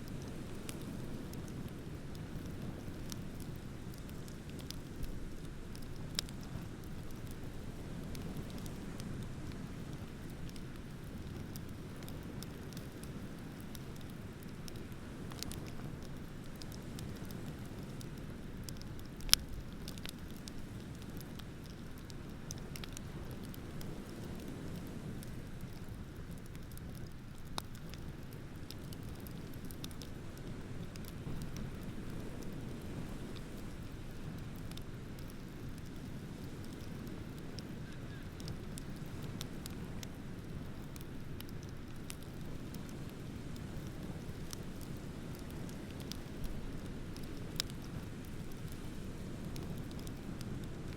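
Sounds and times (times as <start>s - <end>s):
bonfire crackling and popping: 0.0s - 50.9s.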